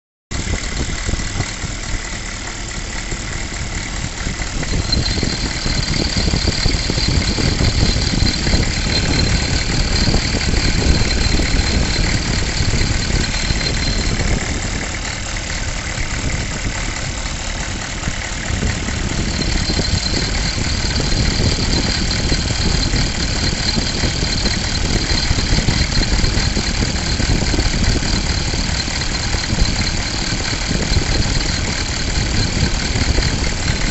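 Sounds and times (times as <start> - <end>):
diesel engine idling with rattle: 0.3 - 33.9
high steady whine: 0.4 - 33.9.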